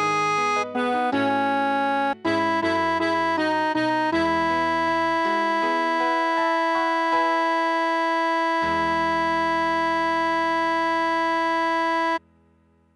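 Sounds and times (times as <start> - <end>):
synthesized keyboard hymn: 0.0 - 12.3.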